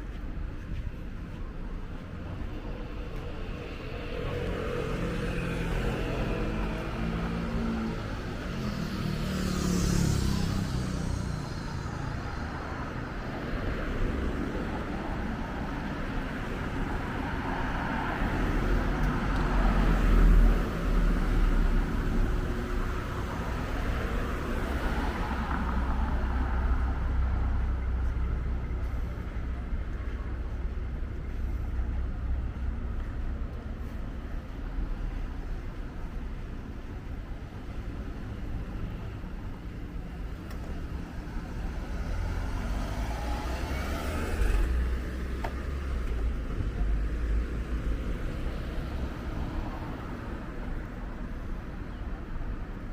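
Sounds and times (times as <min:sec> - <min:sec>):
traffic passing: 0:00.0 - 0:52.9.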